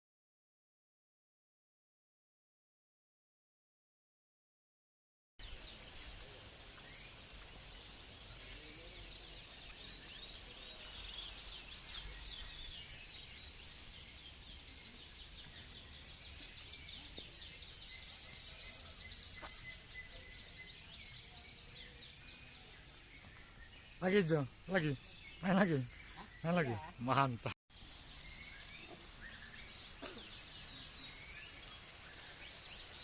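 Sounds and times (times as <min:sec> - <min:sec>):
songbirds chirping and trilling: 0:05.4 - 0:33.0.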